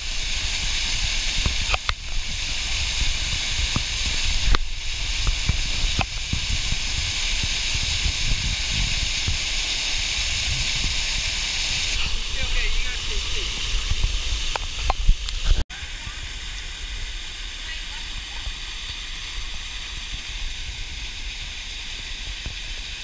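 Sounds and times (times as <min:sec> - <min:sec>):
waterfall streams splashing into pool: 0:00.0 - 0:23.0.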